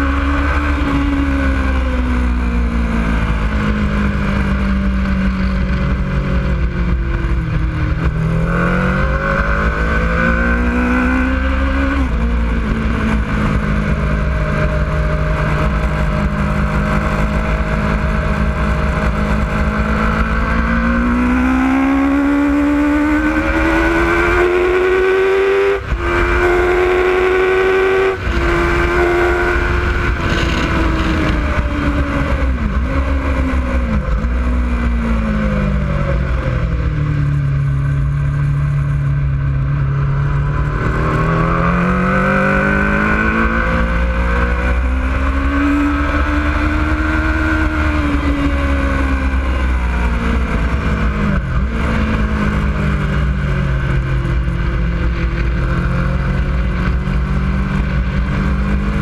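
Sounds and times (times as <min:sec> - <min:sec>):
motorcycle engine at race pace: 0:00.0 - 0:59.0
wind rumble on microphone: 0:00.0 - 0:59.0.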